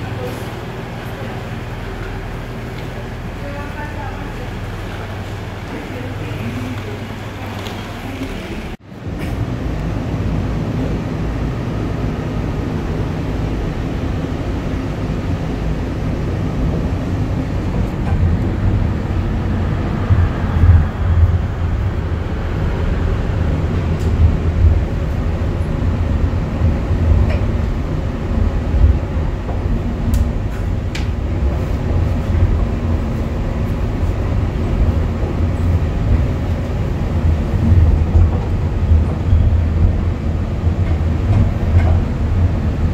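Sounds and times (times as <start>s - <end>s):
train rumbling with deep hum: 0.0s - 42.9s.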